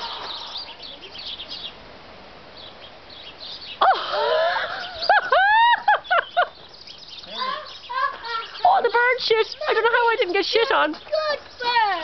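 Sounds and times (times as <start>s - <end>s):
flock of birds chattering: 0.0s - 1.8s, 2.5s - 12.0s
loud high bird calls: 0.0s - 1.8s, 2.6s - 12.0s.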